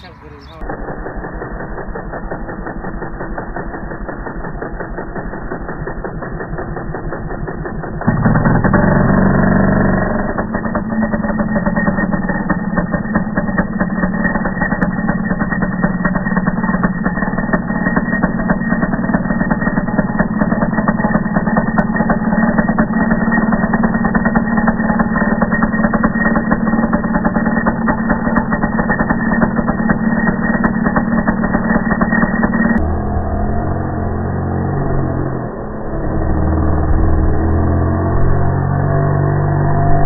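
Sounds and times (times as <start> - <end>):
nitro engine idling: 0.0 - 40.0.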